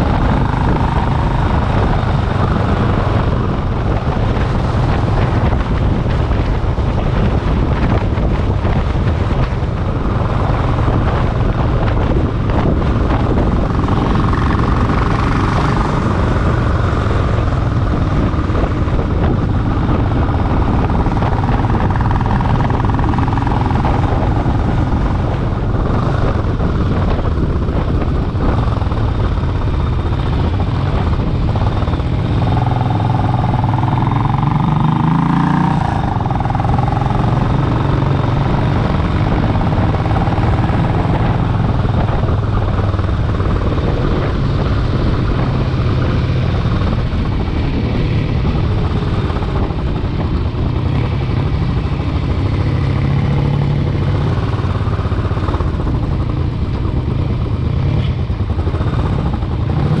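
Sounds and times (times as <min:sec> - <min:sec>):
motorcycle engine running: 0:00.0 - 1:00.0
wind on microphone: 0:00.0 - 1:00.0.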